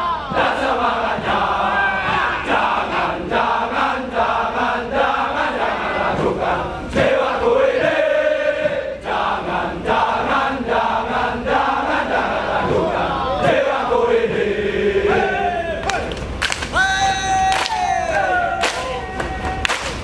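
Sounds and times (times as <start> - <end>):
soldiers chanting in unison: 0.0 - 16.1.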